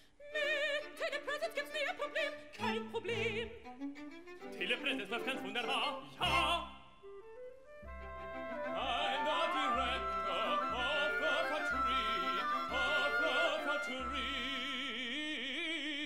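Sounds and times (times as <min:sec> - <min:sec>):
orchestra with strings: 0:00.2 - 0:15.2
operatic singing: 0:00.4 - 0:03.6, 0:04.5 - 0:06.9, 0:08.4 - 0:16.0.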